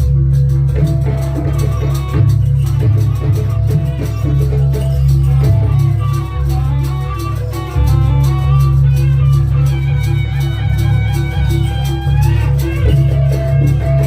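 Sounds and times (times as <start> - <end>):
fast percussion beat: 0.0 - 14.0.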